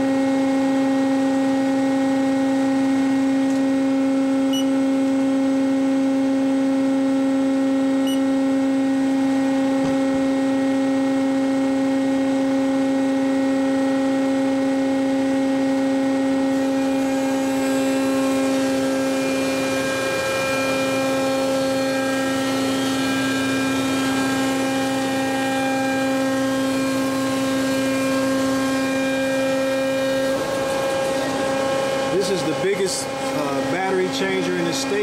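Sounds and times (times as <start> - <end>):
electric motor hum and whine: 0.0 - 35.0.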